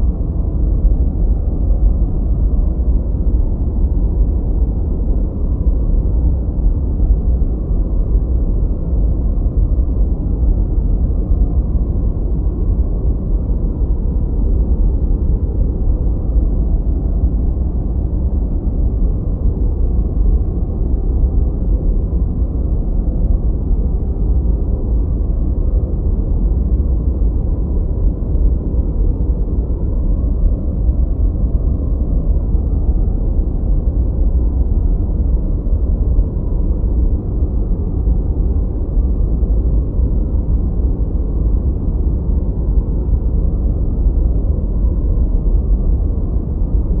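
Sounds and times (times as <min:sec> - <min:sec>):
deep rumbling noise: 0:00.0 - 0:47.0.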